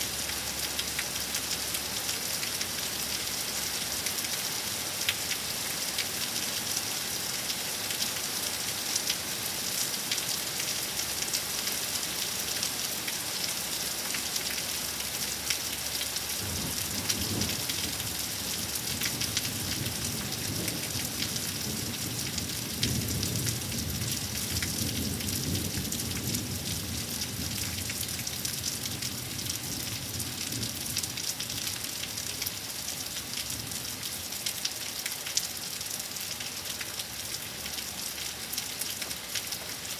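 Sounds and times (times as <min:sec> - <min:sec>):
rain falling: 0:00.0 - 0:39.9
raindrops ticking close by: 0:00.0 - 0:39.9.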